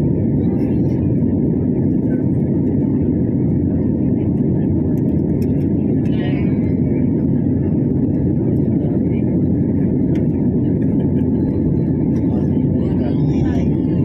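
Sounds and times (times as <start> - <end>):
jet airliner cabin noise: 0.0 - 14.0.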